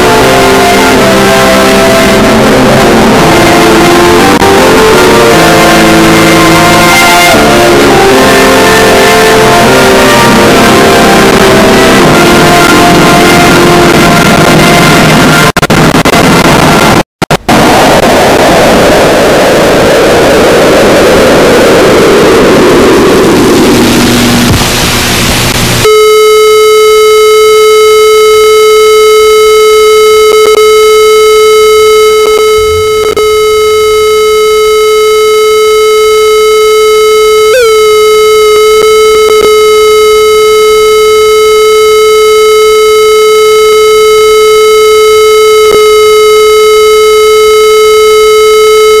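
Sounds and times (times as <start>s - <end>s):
buzzy television test tone: 0.0s - 49.0s.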